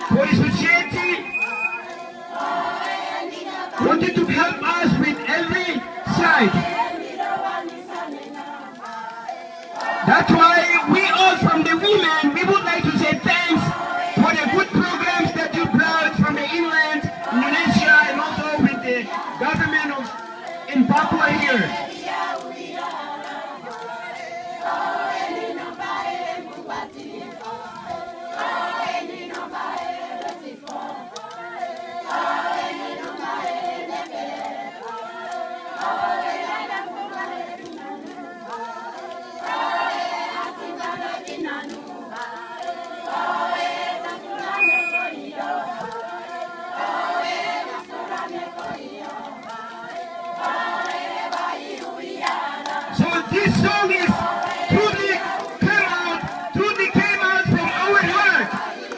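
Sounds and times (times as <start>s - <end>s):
women singing unaccompanied: 0.0s - 0.7s, 1.4s - 3.9s, 5.6s - 11.4s, 12.6s - 58.9s.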